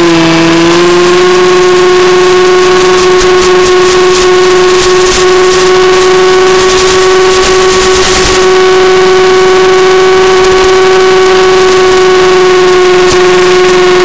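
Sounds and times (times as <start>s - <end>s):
electric motor and propeller whining: 0.0s - 14.0s
wind rushing over microphone: 0.0s - 14.0s.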